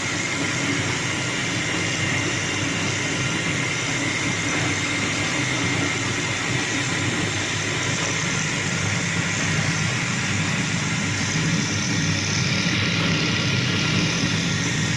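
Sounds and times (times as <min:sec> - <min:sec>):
machine motor humming: 0:00.0 - 0:14.9.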